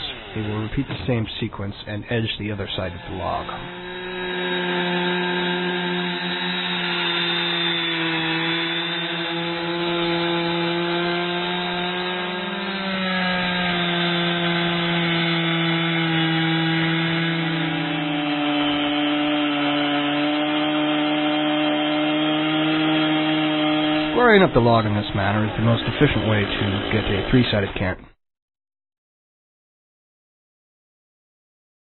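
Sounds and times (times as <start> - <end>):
chainsaw cutting log: 0.0 - 1.5, 2.4 - 28.0.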